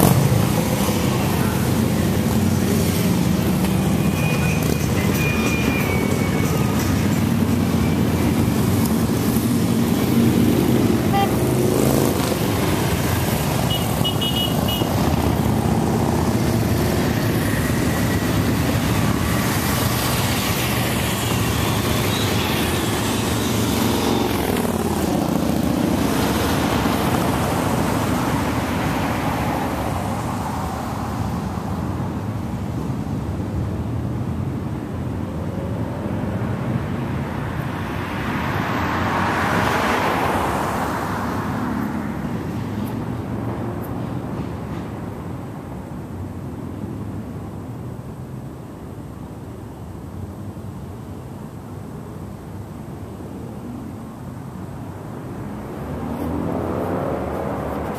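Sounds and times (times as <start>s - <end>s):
motorcycles passing: 0.0s - 47.9s, 51.4s - 57.9s.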